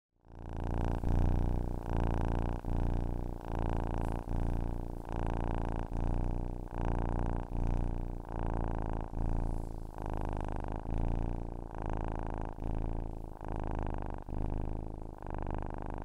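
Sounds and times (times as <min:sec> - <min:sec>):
cat purring: 0:00.2 - 0:16.0.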